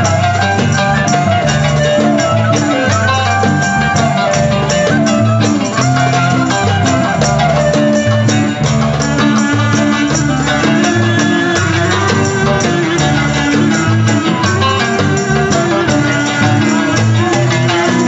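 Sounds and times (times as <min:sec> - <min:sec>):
bass line: 0:00.0 - 0:18.0
clarinet melody: 0:00.0 - 0:18.0
frame drum beat: 0:00.0 - 0:18.0
plucked lute: 0:00.0 - 0:18.0.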